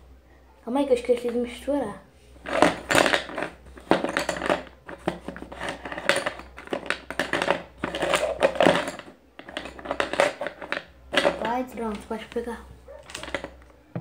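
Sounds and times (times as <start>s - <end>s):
pencils rattling in plastic cup: 2.4s - 13.7s.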